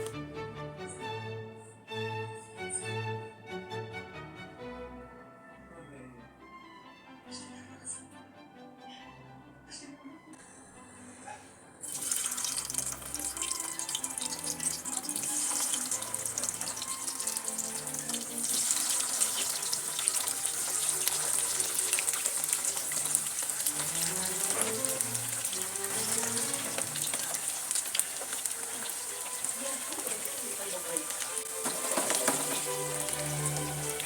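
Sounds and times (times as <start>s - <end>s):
background music: 0.0s - 34.0s.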